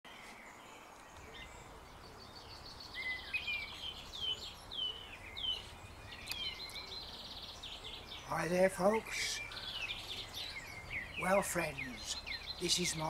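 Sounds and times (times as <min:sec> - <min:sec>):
faint outdoor hiss: 0:00.1 - 0:13.0
birds whistling: 0:01.1 - 0:13.0
bird trill: 0:01.2 - 0:13.0.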